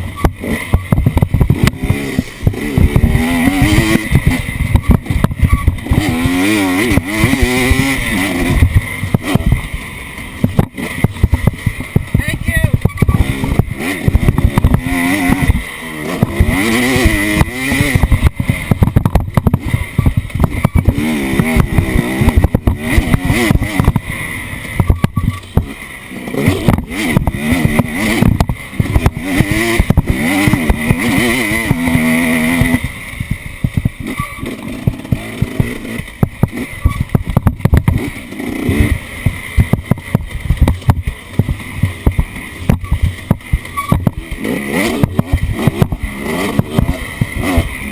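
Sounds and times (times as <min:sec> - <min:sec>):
off-road vehicle engine revving: 0:00.0 - 0:47.9
knocks and rattles: 0:00.1 - 0:25.8, 0:26.5 - 0:47.7.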